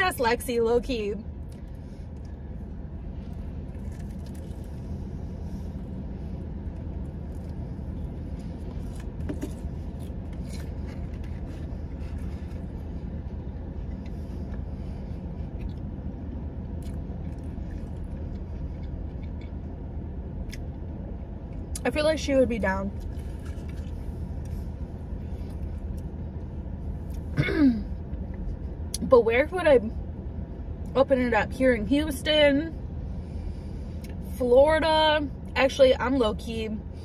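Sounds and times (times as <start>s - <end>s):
car engine rumbling: 0.0s - 37.0s.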